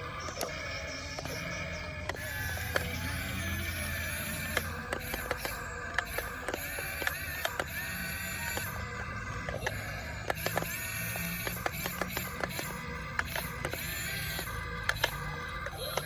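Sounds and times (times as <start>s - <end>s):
plastic tracks clicking: 0.0s - 16.0s
small electric motors whirring: 0.0s - 16.0s.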